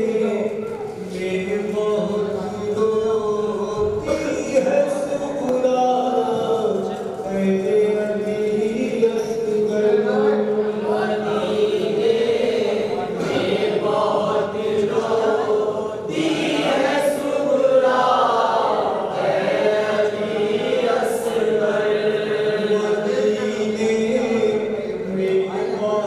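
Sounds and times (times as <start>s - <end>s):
men chanting a lament together: 0.0s - 26.0s
reciter on a microphone: 0.0s - 26.0s.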